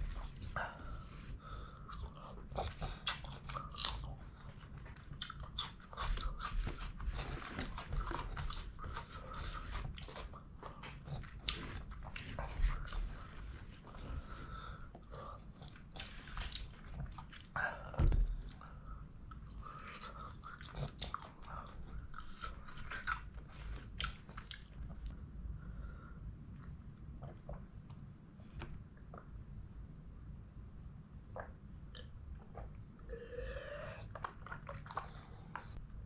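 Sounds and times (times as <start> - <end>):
faint high-pitched whine: 0.0 - 36.0.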